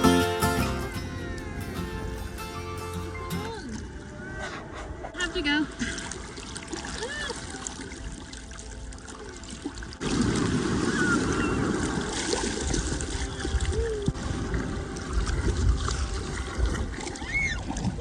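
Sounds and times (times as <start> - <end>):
water trickling and lapping: 1.3 - 18.0.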